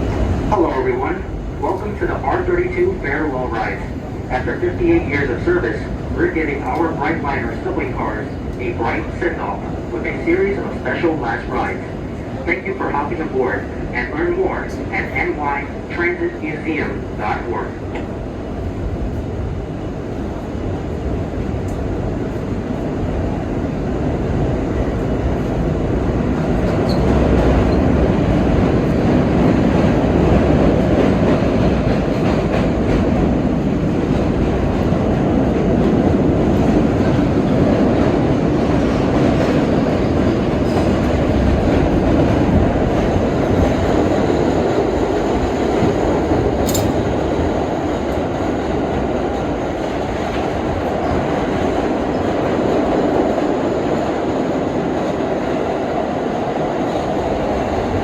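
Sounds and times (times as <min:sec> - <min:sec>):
subway train wheels rumbling: 0:00.0 - 0:58.0.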